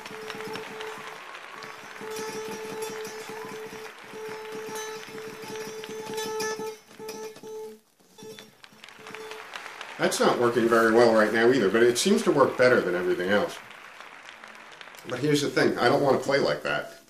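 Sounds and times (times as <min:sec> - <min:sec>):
acoustic guitar rapid picking: 0:00.0 - 0:13.7.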